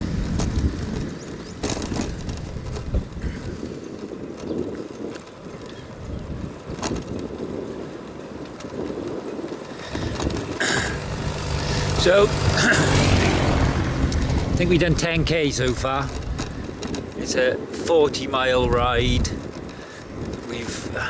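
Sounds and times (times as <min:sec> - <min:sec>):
road rumble: 0:00.0 - 0:21.0
wind buffeting microphone: 0:00.0 - 0:21.0.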